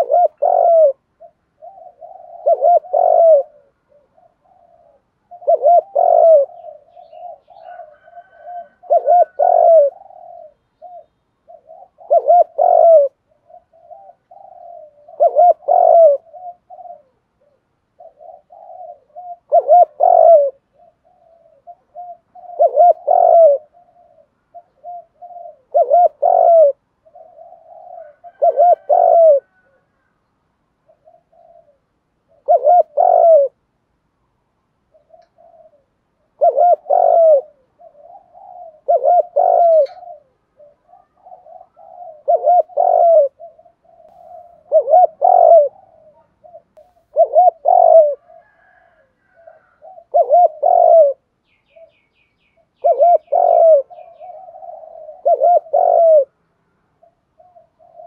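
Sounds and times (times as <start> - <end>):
dove cooing: 0.0 - 30.1, 30.7 - 33.7, 34.8 - 58.0.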